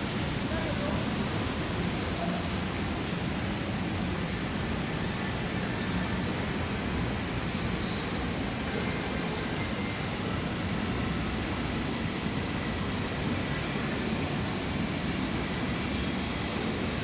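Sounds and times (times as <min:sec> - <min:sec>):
city street ambience: 0:00.0 - 0:17.0.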